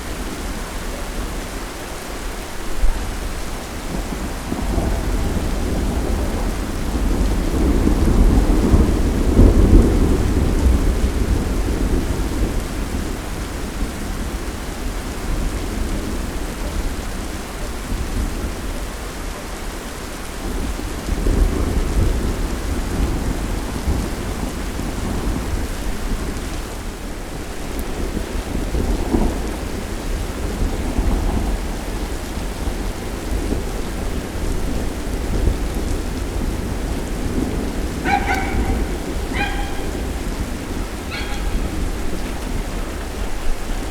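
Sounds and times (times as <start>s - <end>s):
steady rain: 0.0s - 43.9s
rolling thunder: 2.7s - 18.7s, 20.4s - 43.9s.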